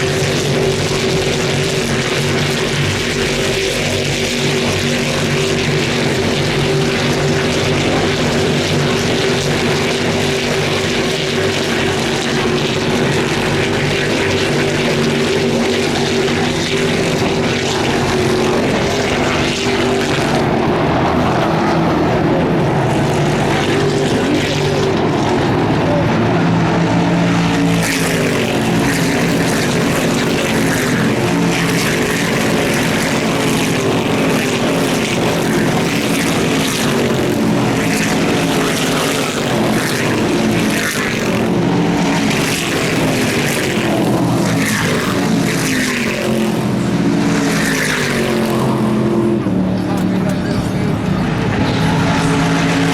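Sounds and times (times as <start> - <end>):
race car engines droning: 0.0 - 52.9.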